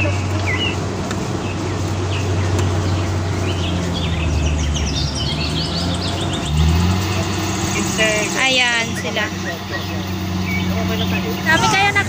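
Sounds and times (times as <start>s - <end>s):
birds chirping: 0.0s - 12.0s
combine harvester engine drone: 0.0s - 12.0s.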